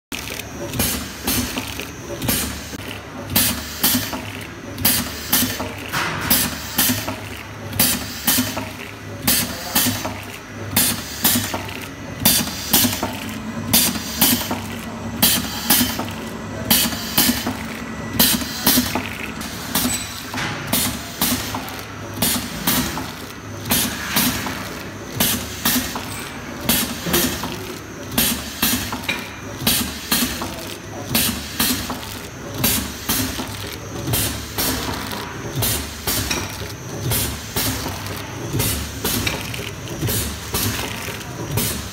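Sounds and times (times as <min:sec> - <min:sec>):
machine clacks and air hisses: 0:00.1 - 0:41.9.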